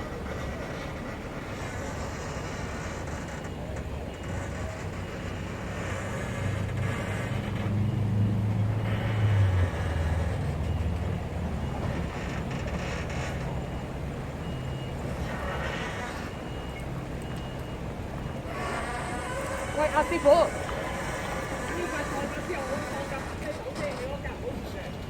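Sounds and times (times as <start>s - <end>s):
heavy truck engine under load: 0.0s - 25.0s
reversing alarm beeps: 0.3s - 23.6s.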